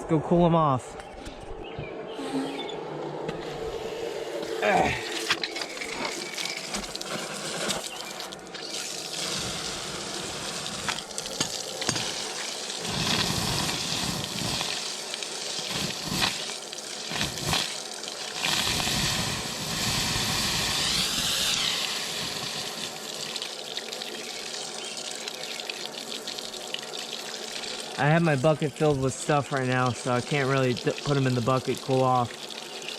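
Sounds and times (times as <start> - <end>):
running water: 2.1 - 32.9.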